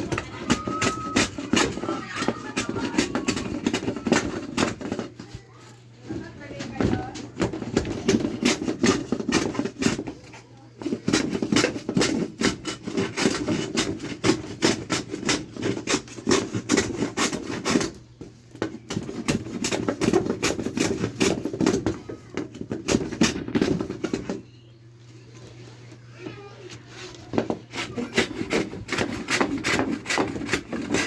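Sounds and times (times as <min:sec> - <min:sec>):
hand tool scraping wood: 0:00.0 - 0:05.4, 0:06.1 - 0:24.4, 0:26.7 - 0:31.0.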